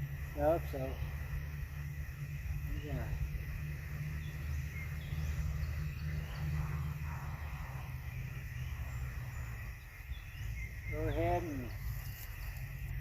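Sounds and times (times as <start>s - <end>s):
wind rumble on microphone: 0.0s - 13.0s
faint bird chirps: 0.7s - 13.0s.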